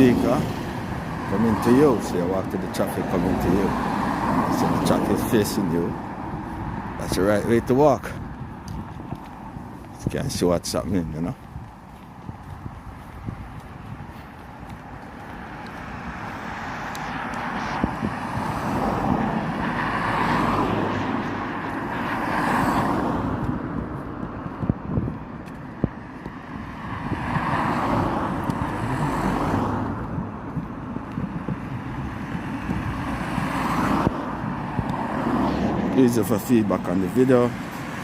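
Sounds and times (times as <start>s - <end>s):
cars passing close by: 0.0s - 38.0s.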